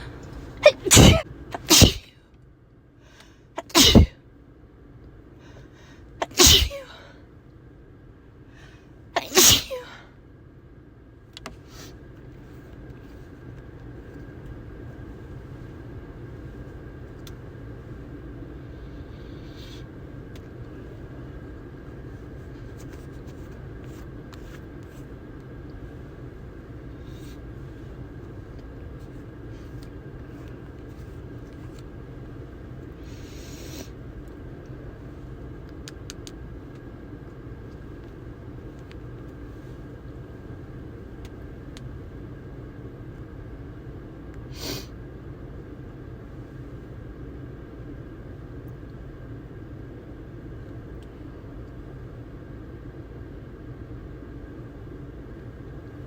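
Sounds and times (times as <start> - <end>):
faint steady whine: 0.0 - 56.0.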